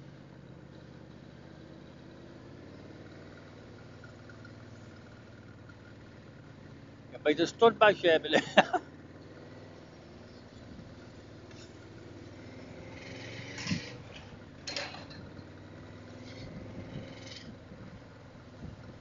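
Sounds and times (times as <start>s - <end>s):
muffled motorcycle engine hum: 0.0s - 19.0s.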